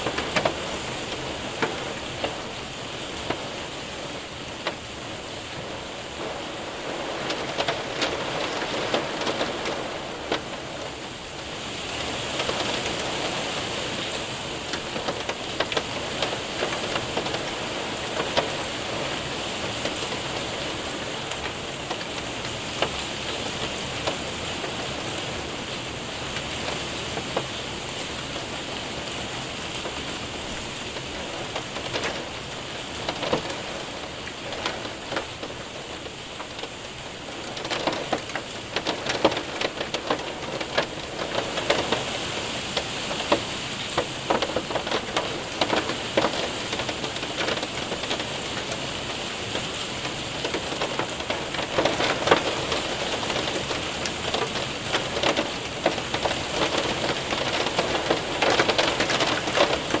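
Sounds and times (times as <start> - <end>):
hailstones ticking on window: 0.0 - 60.0
rain hiss: 0.0 - 60.0.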